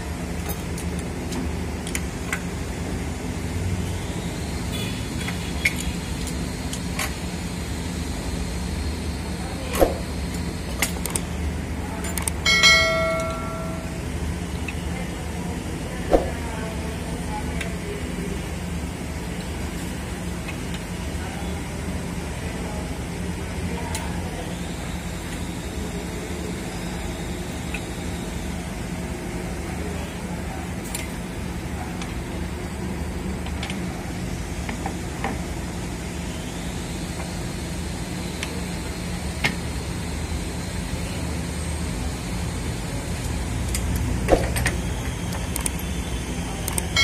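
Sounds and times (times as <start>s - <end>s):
low machine hum: 0.0s - 47.0s.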